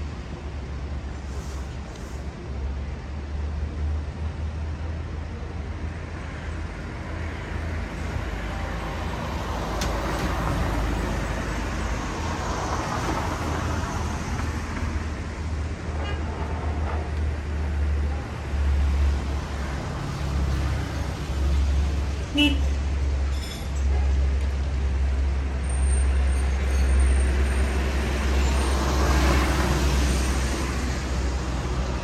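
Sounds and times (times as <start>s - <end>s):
low traffic rumble: 0.0s - 32.0s.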